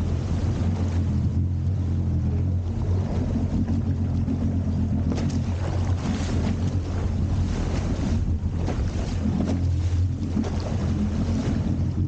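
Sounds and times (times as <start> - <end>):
jet ski engine running: 0.0 - 12.0
wind on microphone: 0.0 - 12.0.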